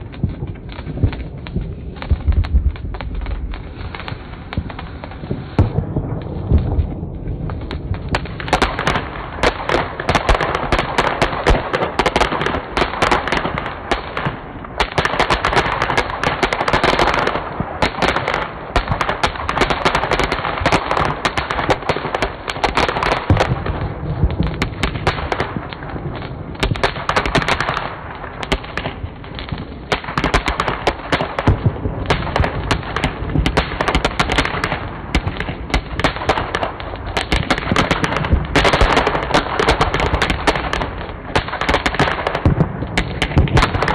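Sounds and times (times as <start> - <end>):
firework fountains crackling: 0.0 - 43.9.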